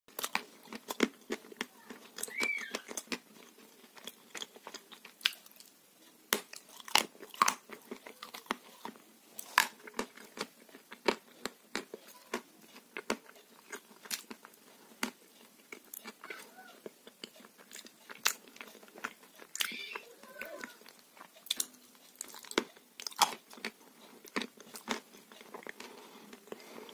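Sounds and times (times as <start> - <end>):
chewing food: 0.1 - 26.9.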